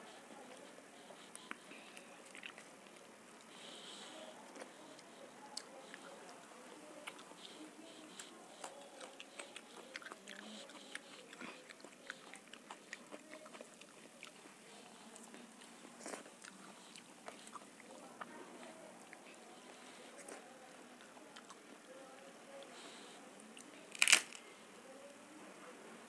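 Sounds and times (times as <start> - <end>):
soft wet chewing: 0.0 - 25.9.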